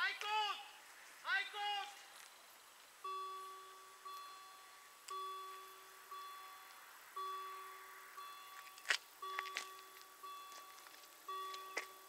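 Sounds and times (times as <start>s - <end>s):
level crossing warning bell: 1.9s - 12.0s.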